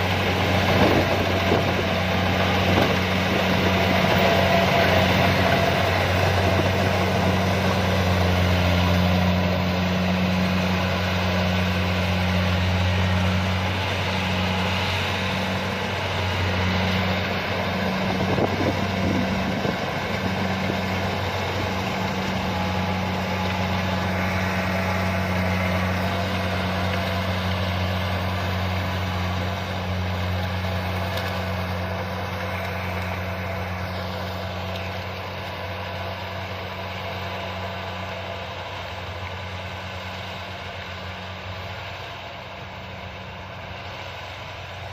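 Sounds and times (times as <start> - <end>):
combine harvester engine humming: 0.0 - 44.9.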